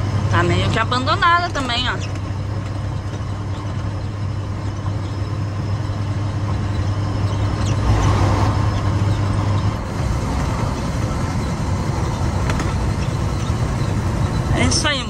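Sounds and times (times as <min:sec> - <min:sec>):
diesel truck engine cruising: 0:00.0 - 0:15.0
road noise: 0:00.0 - 0:15.0.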